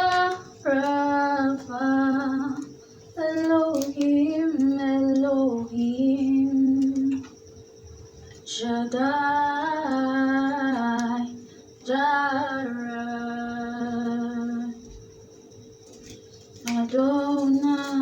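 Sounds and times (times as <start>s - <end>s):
woman singing unaccompanied: 0.0s - 7.4s, 8.4s - 15.0s, 16.6s - 18.0s.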